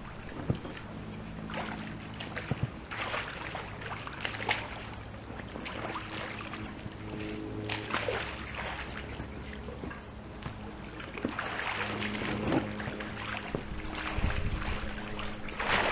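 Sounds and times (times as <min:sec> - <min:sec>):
pool water splashing: 0:00.0 - 0:15.9
steady low hum: 0:00.0 - 0:15.9.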